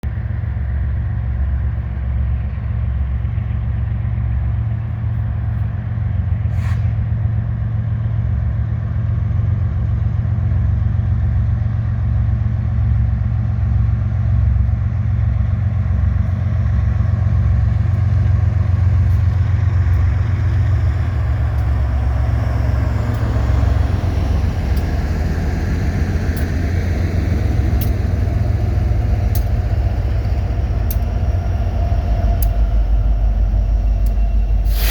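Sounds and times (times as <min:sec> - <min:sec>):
locomotive engines droning: 0:00.0 - 0:34.9
train wheels rolling on rails: 0:00.2 - 0:34.9.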